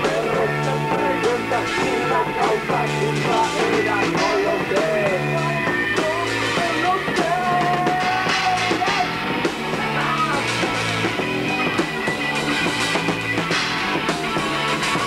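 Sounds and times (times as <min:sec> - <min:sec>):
bending guitar lead melody: 0:00.0 - 0:15.0
rock band playing: 0:00.0 - 0:15.0.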